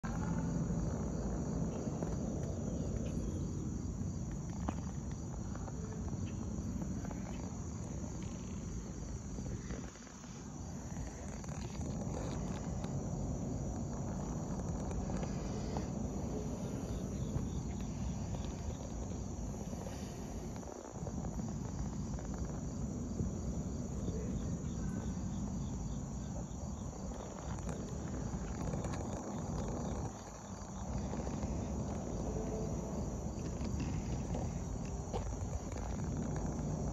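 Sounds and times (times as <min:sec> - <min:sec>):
insects chirring: 0:00.0 - 0:36.9
low uneven rumble: 0:00.0 - 0:36.9.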